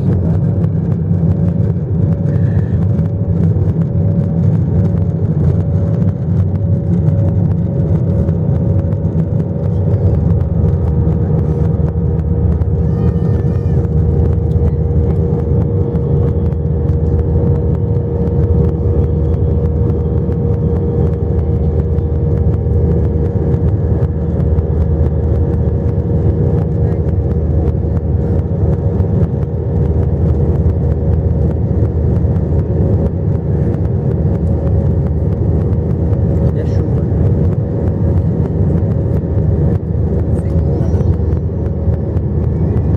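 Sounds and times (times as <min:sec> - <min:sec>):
jet engine rumble: 0:00.0 - 0:42.9
jet engine whine: 0:00.0 - 0:42.9.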